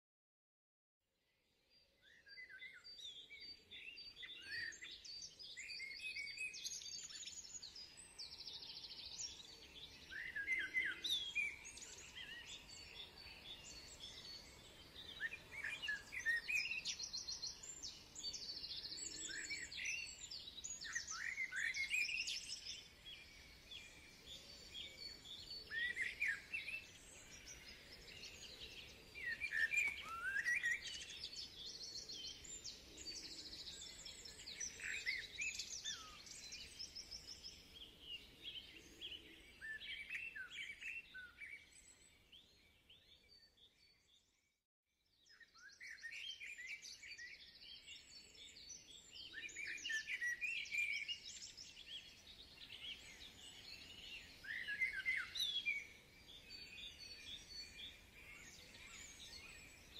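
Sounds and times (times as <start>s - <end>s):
songbirds singing: 1.3s - 59.9s.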